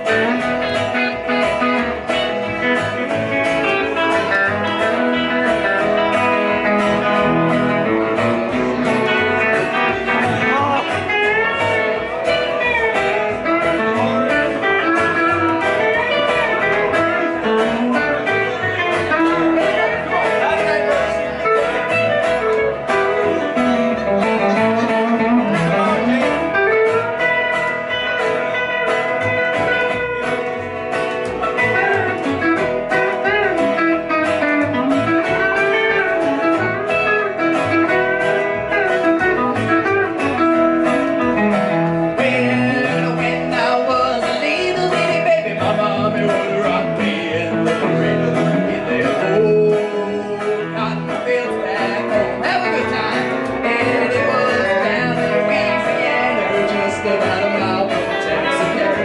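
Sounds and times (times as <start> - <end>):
acoustic guitar: 0.0 - 59.0
electric guitar: 0.0 - 59.0
upright double bass: 0.0 - 59.0.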